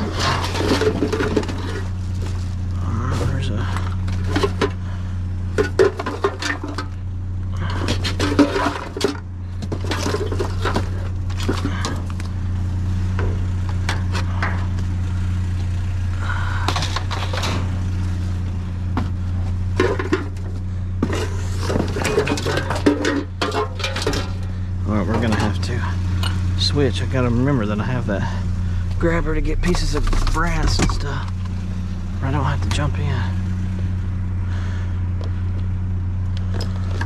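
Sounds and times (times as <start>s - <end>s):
junk clinking and clattering: 0.0s - 37.0s
low hum: 0.0s - 37.0s.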